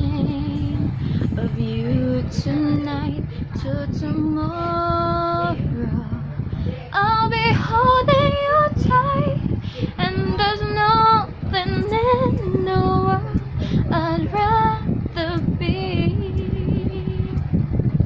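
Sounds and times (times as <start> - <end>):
woman singing with full mouth: 0.0 - 18.0.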